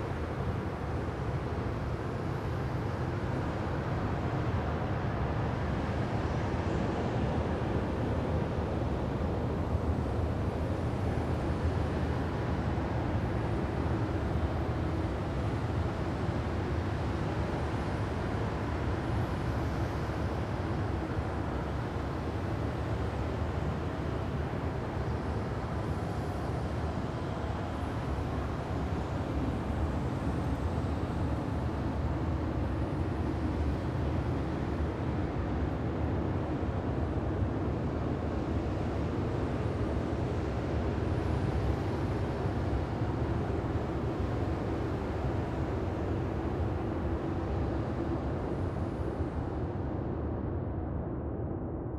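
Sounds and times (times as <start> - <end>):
low rumbling wind-like noise: 0.0 - 51.9.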